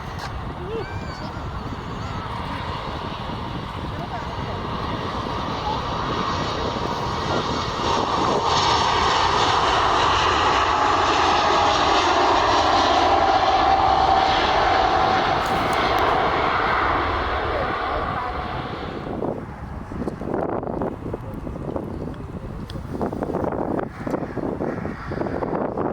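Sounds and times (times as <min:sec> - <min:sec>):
airliner engines passing: 0:00.0 - 0:25.9
steady engine whine: 0:00.0 - 0:25.9.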